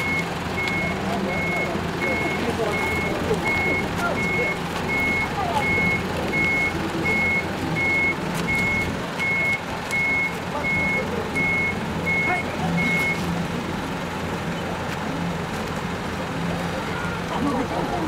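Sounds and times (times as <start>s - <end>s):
truck reversing alarm beeps: 0.0s - 14.8s
truck engine running: 0.0s - 18.0s.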